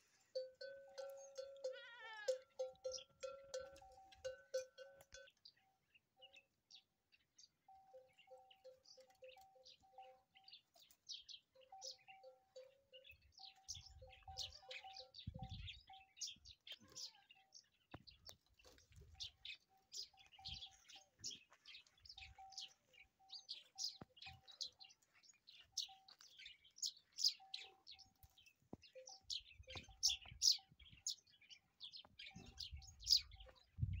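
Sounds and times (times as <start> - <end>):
small birds chirping: 1.0 - 34.0.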